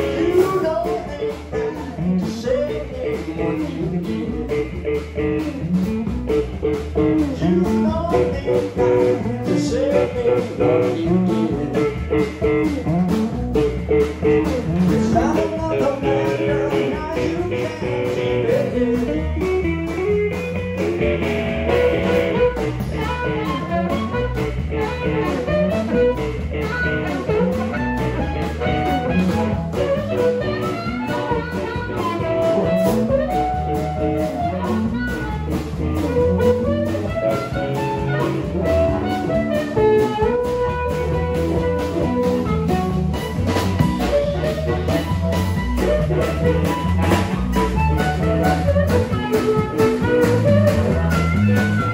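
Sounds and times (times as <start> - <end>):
amplified harmonica: 0.0 - 51.9
blues band playing: 0.0 - 51.9.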